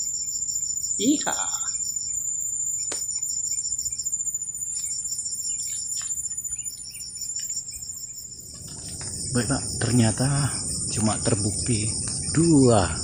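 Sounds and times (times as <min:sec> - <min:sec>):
insects chirring in pulsing trills: 0:00.0 - 0:13.0.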